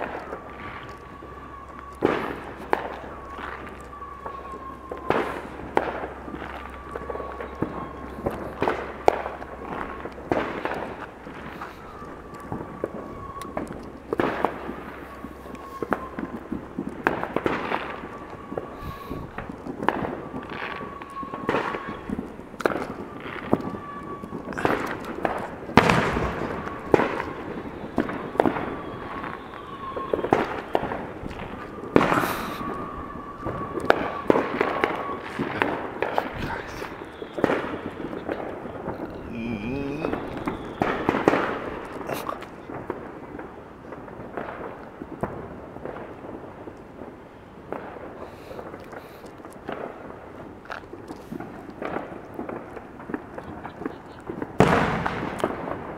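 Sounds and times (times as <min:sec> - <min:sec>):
fireworks bangs and pops: 0:00.0 - 0:55.9.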